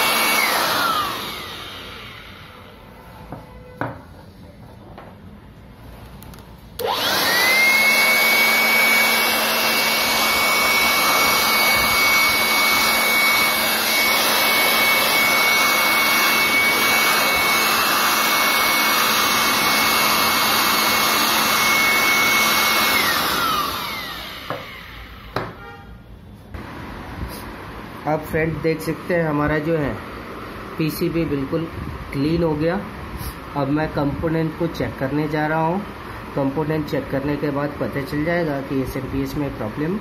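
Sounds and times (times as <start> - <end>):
electric air blower whining: 0.0 - 4.0, 6.7 - 25.7, 26.6 - 40.0.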